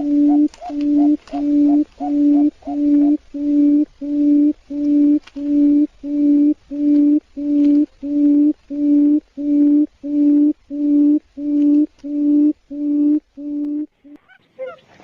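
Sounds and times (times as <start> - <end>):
quail hooting: 0.0 - 15.0.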